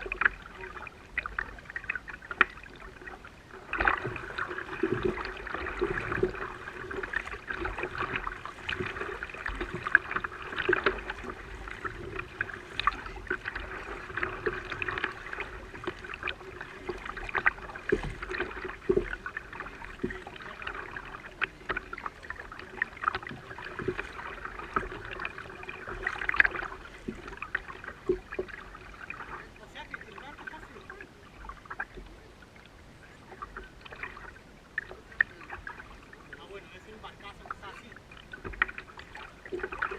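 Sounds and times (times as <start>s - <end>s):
small knocks and splashes: 0.0s - 32.2s, 33.3s - 39.9s
faint steady hum: 0.0s - 39.9s
water slapping against hull: 0.0s - 39.9s.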